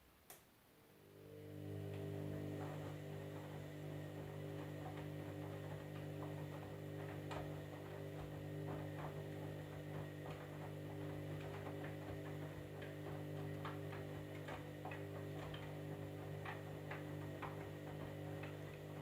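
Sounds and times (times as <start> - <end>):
washing machine motor hum: 0.8 - 19.0
faint clicks and ticks: 2.6 - 19.0.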